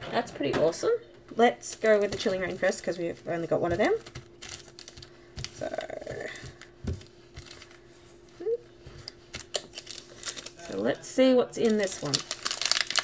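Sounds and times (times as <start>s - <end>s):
steady hum: 0.0s - 13.0s
foil packs rustling: 1.6s - 8.2s, 8.9s - 13.0s.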